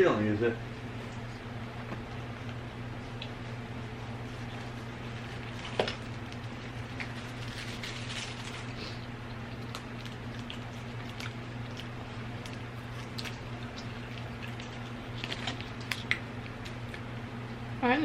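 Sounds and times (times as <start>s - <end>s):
chewing: 1.8s - 17.1s.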